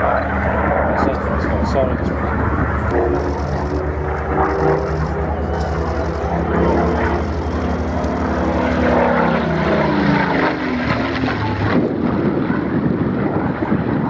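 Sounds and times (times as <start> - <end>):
aircraft engine fly-by: 0.0 - 14.0.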